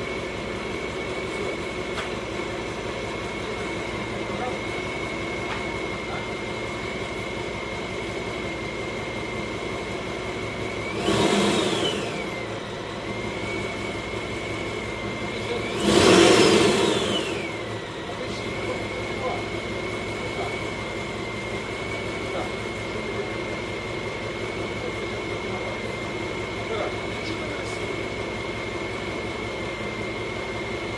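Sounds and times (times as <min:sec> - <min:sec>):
car engine idling: 0:00.0 - 0:30.9
supercharger whine: 0:00.0 - 0:30.9.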